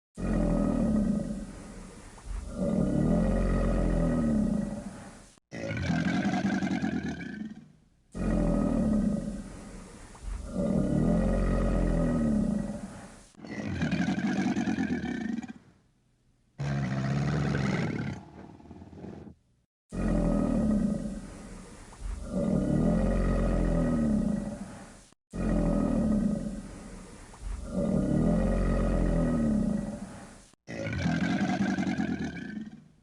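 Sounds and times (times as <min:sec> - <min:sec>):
crocodile roaring: 0:00.2 - 0:09.7, 0:10.3 - 0:15.6, 0:16.6 - 0:32.9.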